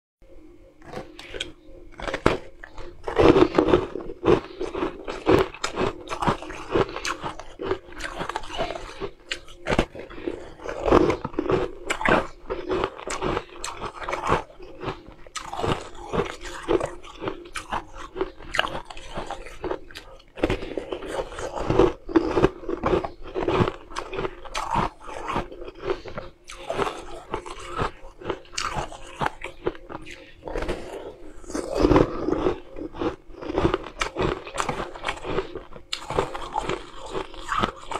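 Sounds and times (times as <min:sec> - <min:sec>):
ice crunching between teeth: 0:00.8 - 0:37.9.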